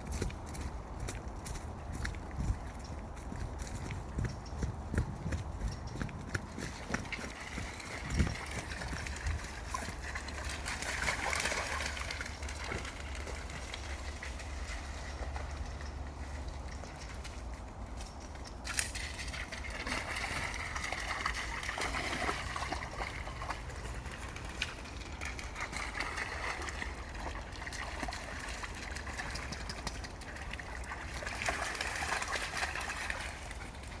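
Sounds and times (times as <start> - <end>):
creek water running: 0.0 - 34.0
dogs splashing in water: 3.2 - 16.9, 18.7 - 34.0.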